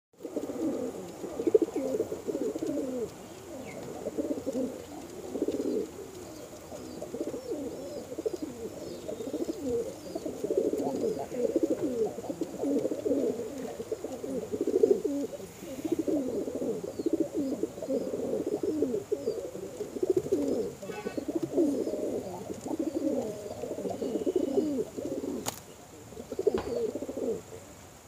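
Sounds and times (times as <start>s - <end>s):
pigeons cooing: 0.2s - 28.0s.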